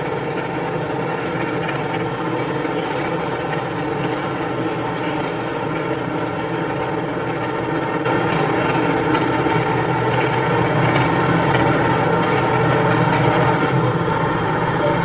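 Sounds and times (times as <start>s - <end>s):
paving machinery engine drone: 0.0s - 15.0s.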